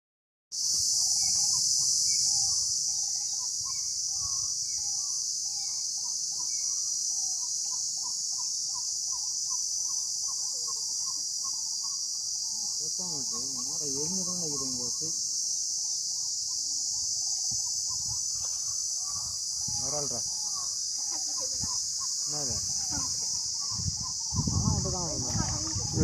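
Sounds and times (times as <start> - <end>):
bird chirping: 0.6 - 26.0
insects chorus: 0.6 - 26.0.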